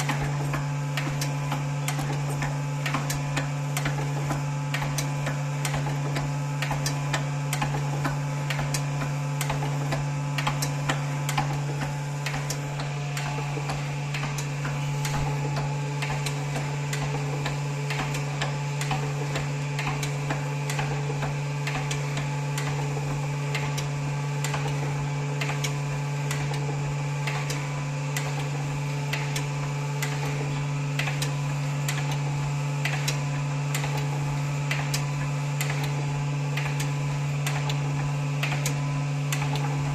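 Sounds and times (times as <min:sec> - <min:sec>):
small irregular ticks and clicks: 0:00.0 - 0:11.6, 0:12.2 - 0:22.8, 0:23.5 - 0:24.8, 0:25.4 - 0:26.6, 0:27.2 - 0:30.4, 0:31.0 - 0:32.2, 0:32.8 - 0:34.1, 0:34.7 - 0:37.8, 0:38.4 - 0:39.7
machine humming: 0:00.0 - 0:39.9.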